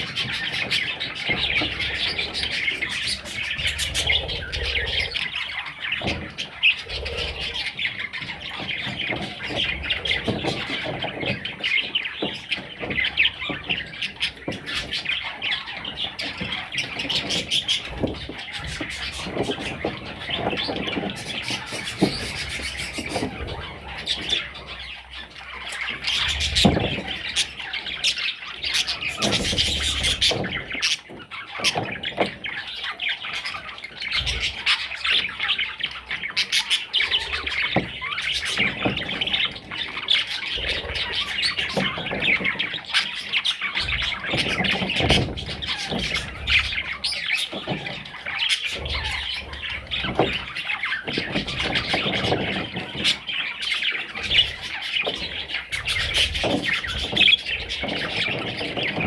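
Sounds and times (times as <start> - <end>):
baby budgerigars chirping: 0.0 - 59.0.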